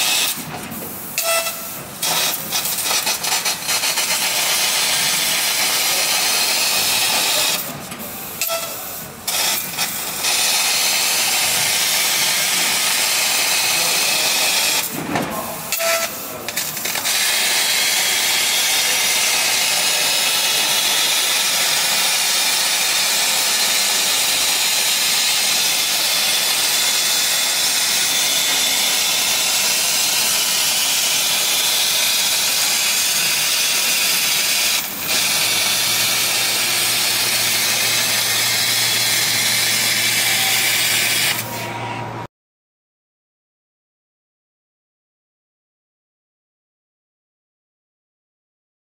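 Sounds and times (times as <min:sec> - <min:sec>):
laser cutter hissing: 0:00.0 - 0:41.8.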